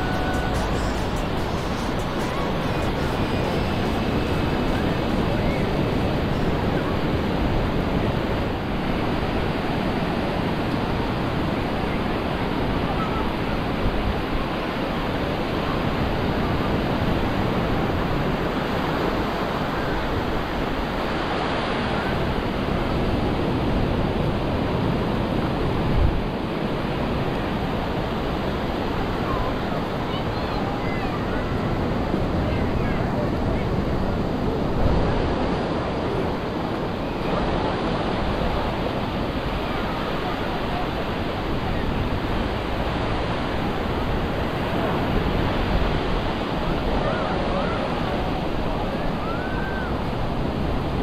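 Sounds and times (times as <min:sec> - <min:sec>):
small waves breaking on beach: 0:00.0 - 0:51.0
wind rumbling on microphone: 0:00.0 - 0:51.0.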